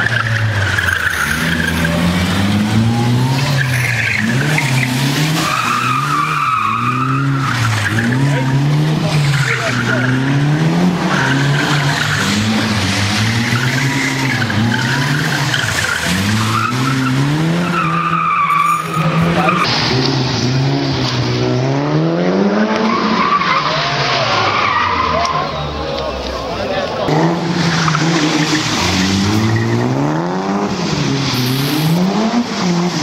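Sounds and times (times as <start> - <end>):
tyres squealing and skidding: 0.0 - 21.5, 22.3 - 33.0
rally car engines revving: 0.0 - 33.0.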